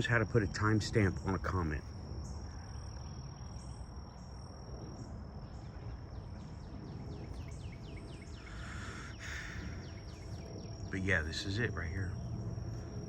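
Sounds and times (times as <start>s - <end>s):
crickets droning: 0.0s - 13.0s
low wind rumble: 0.0s - 13.0s
bird chirping: 0.6s - 13.0s.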